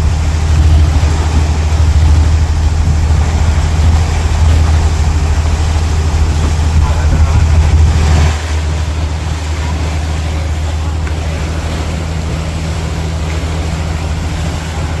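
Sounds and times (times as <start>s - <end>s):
boat engine droning: 0.0s - 15.0s
water rushing in wake: 0.0s - 15.0s
wind and rain hiss: 0.0s - 15.0s.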